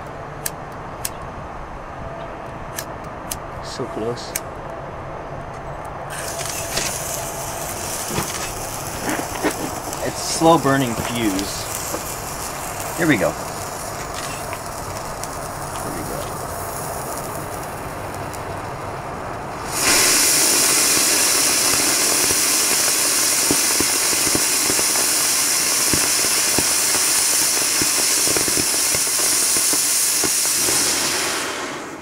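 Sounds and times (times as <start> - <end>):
crackles: 5.4 - 32.0
rocket motor hissing: 6.0 - 32.0
fuse fizzing: 6.1 - 32.0.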